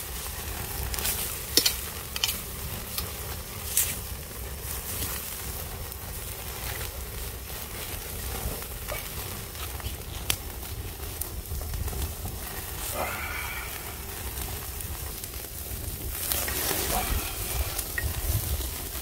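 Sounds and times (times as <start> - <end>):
crackling flames: 0.0 - 19.0
hissing rush of flame: 0.0 - 19.0
sizzling fat: 0.0 - 19.0.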